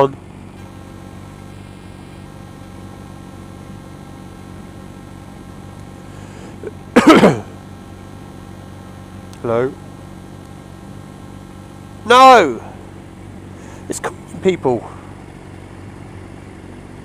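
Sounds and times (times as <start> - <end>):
steady low hum with tones: 0.0 - 17.0.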